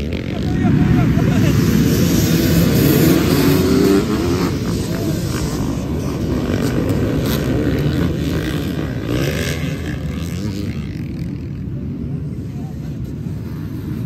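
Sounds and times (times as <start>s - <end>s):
dirt bikes accelerating: 0.0s - 14.0s.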